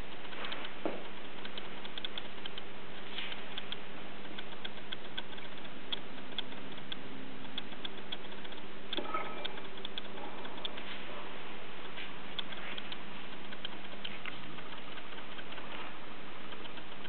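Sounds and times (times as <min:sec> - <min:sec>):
sampler clicks and ticks: 0:00.0 - 0:10.9, 0:11.8 - 0:17.0
low hum and hiss: 0:00.0 - 0:17.0.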